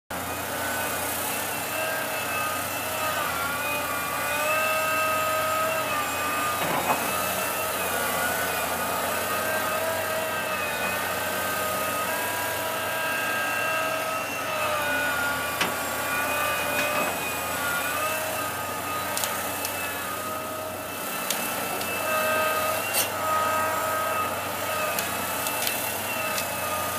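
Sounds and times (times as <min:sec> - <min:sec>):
excavator engine and hydraulics whine: 0:00.1 - 0:26.9.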